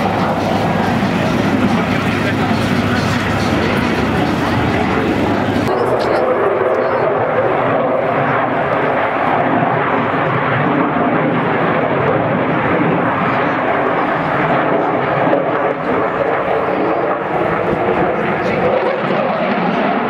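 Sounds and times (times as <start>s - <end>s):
jet engine roaring overhead: 0.0s - 20.0s.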